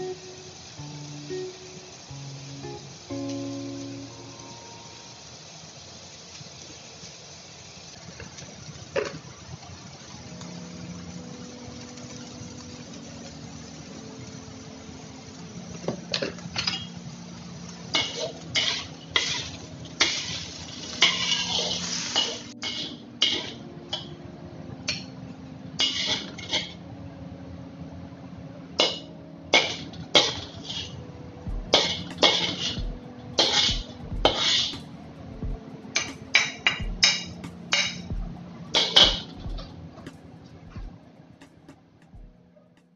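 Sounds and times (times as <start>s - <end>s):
steady low hiss: 0.0s - 42.9s.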